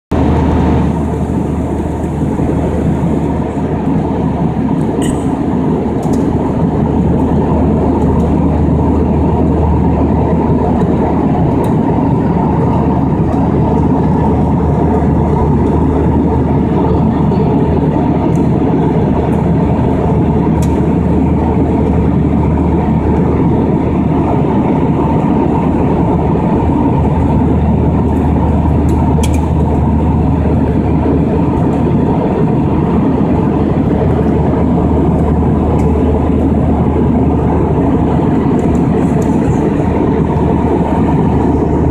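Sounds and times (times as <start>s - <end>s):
airliner cabin engine noise: 0.1s - 41.9s.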